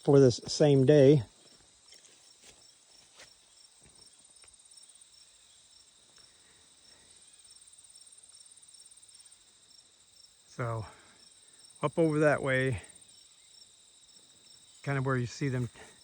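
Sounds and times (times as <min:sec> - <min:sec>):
cricket chirping: 0:00.0 - 0:16.0
crickets trilling: 0:00.0 - 0:16.0.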